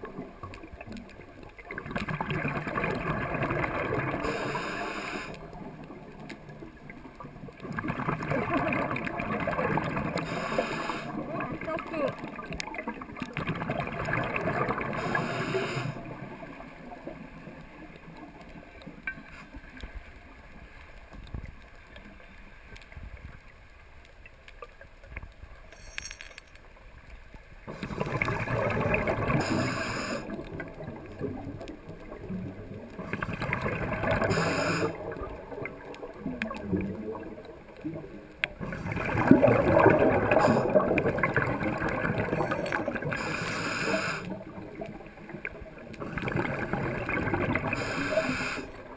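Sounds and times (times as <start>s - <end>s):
exhaled bubbles underwater: 0.0s - 20.5s, 27.7s - 48.9s.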